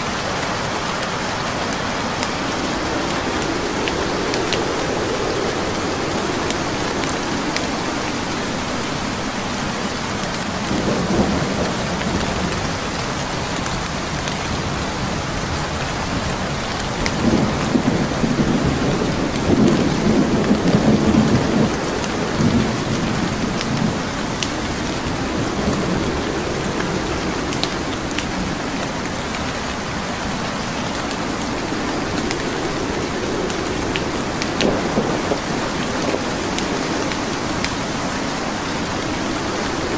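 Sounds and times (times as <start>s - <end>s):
wood fire crackling: 0.0s - 10.7s, 16.4s - 39.9s
steady rain: 0.0s - 39.9s
thunder rumbling: 0.0s - 39.9s.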